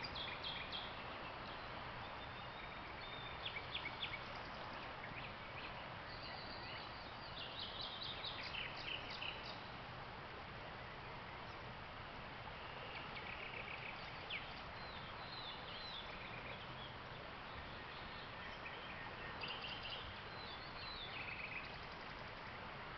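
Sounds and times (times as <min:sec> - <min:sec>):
nightingales singing: 0:00.0 - 0:09.8, 0:12.6 - 0:22.5
background hiss: 0:00.0 - 0:22.9.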